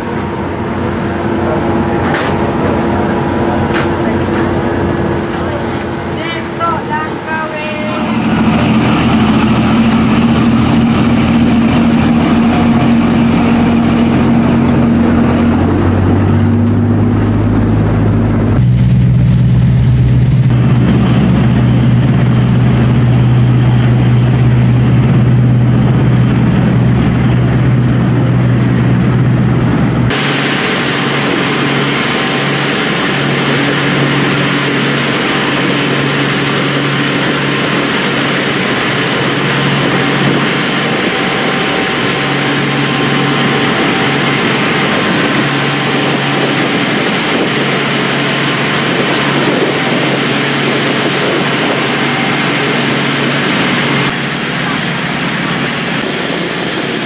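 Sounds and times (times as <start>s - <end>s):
rush of wind and water: 0.0s - 57.0s
speedboat engine running: 0.0s - 57.0s.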